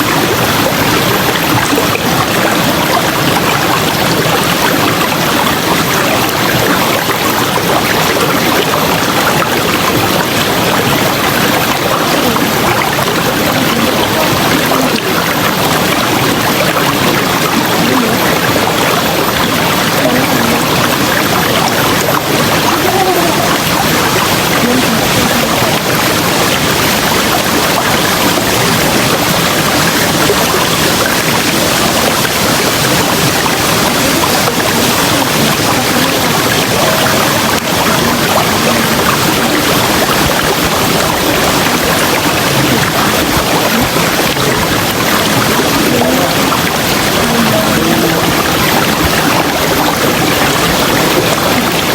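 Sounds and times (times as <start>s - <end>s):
river water rushing over rocks: 0.0s - 51.9s.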